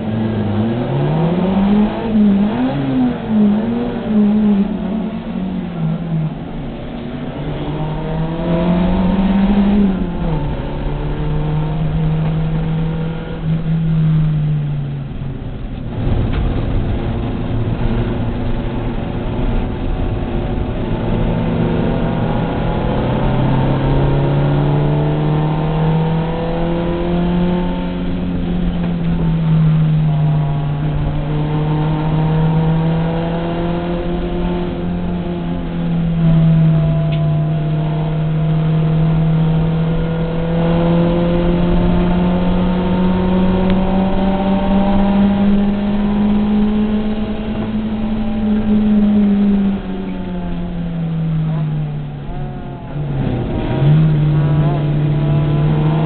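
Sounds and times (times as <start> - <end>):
race car engine revving: 0.0 - 56.0
road and wind noise: 0.0 - 56.0.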